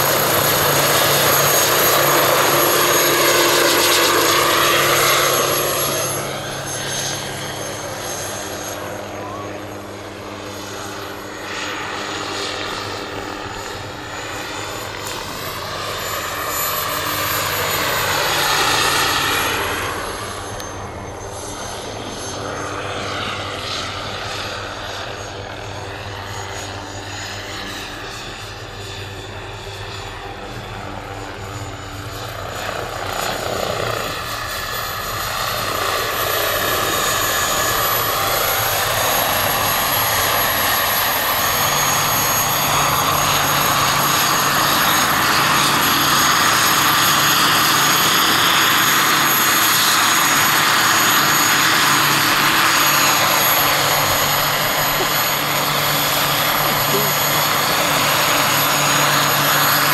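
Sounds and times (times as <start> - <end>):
helicopter rotor noise: 0.0 - 59.9
high turbine whine: 0.0 - 59.9.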